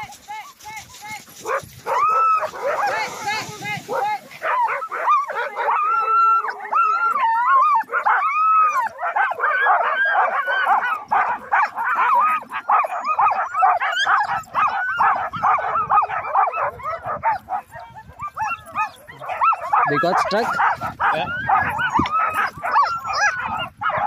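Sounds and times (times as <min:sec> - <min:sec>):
dogs barking yipping and howling: 0:00.0 - 0:24.0.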